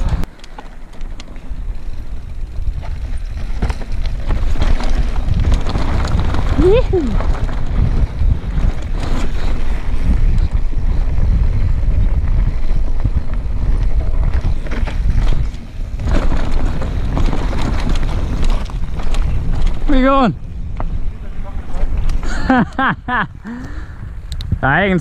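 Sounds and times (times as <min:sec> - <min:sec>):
bike rattling over loose stones: 0:00.0 - 0:22.9
wind rumbling on microphone: 0:00.0 - 0:25.0.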